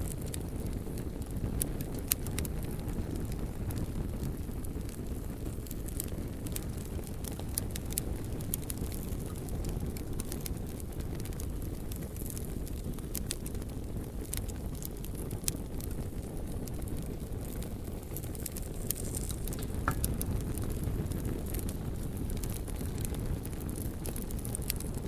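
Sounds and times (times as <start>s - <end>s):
fire crackles and pops: 0.0s - 25.0s
low rumble of flame: 0.0s - 25.0s.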